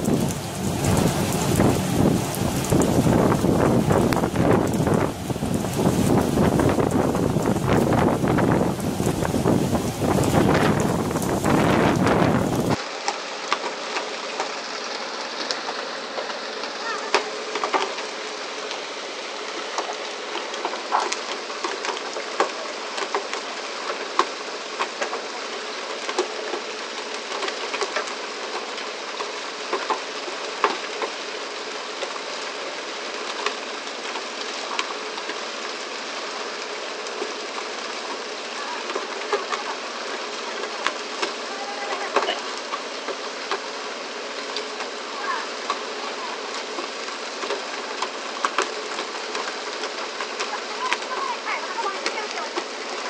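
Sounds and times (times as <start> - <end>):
rushing water spray: 0.0 - 53.0.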